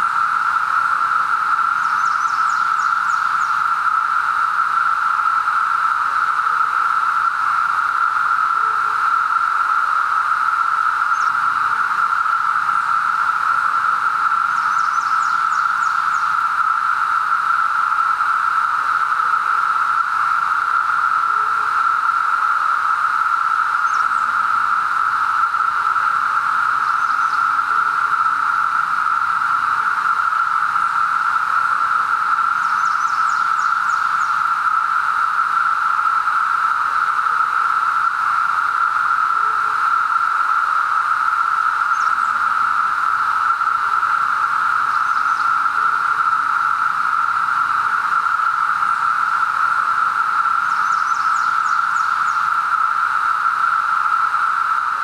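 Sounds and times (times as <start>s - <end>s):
cicadas humming: 0.0s - 55.0s.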